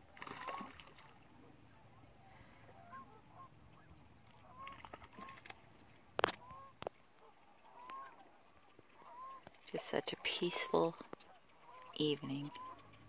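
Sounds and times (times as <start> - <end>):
distant cranes calling: 0.3 - 13.0.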